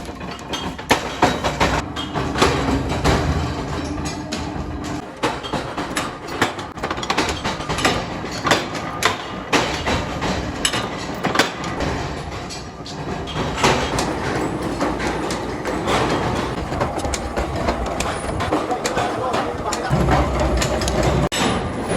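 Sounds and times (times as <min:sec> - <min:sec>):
metal clanks and knocks: 0:00.0 - 0:21.8
metalworking machinery running: 0:00.0 - 0:21.9.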